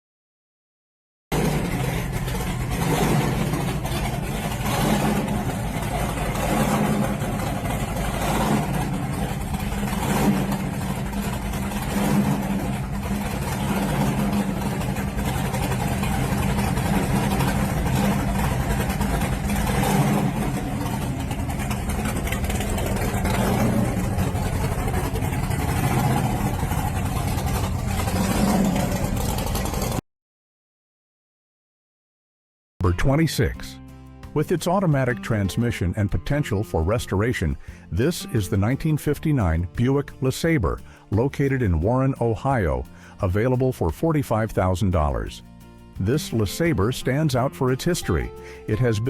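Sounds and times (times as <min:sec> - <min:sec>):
car engine throttle blips: 0:01.3 - 0:30.0, 0:32.8 - 0:49.0.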